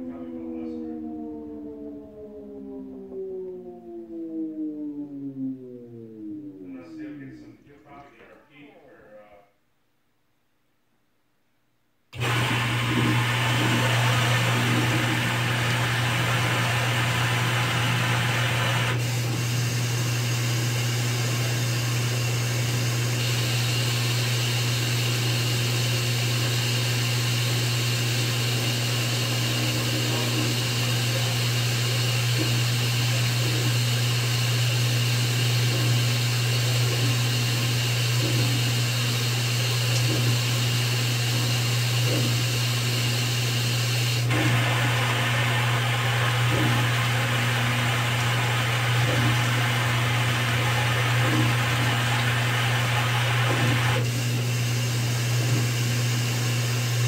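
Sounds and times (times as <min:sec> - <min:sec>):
washing machine motor hum: 0:00.0 - 0:07.2, 0:12.2 - 0:57.0.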